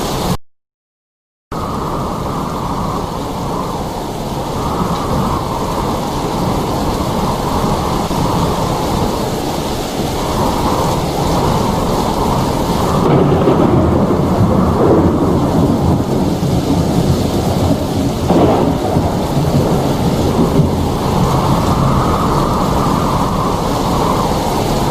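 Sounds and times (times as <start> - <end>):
heavy rain falling: 0.0 - 0.4, 1.5 - 24.9
thunder rumbling: 1.5 - 24.9.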